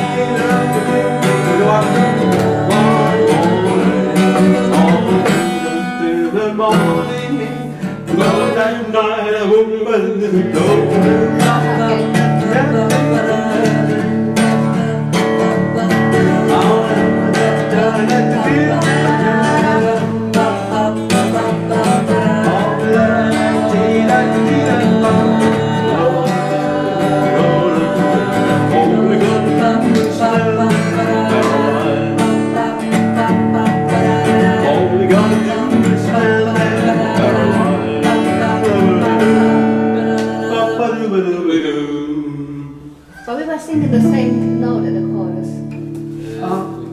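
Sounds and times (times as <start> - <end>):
people singing: 0.0 - 43.9
acoustic guitar strummed: 0.0 - 46.9.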